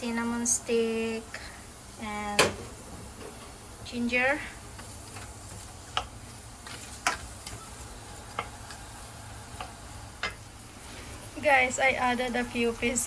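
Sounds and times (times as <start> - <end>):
onion frying in hot oil: 0.0 - 13.0.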